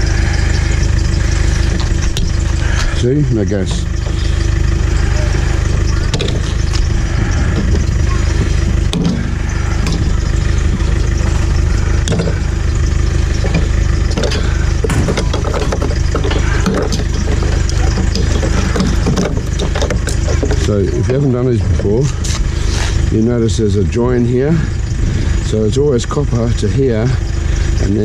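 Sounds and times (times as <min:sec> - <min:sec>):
engine idling hum: 0:00.0 - 0:28.0.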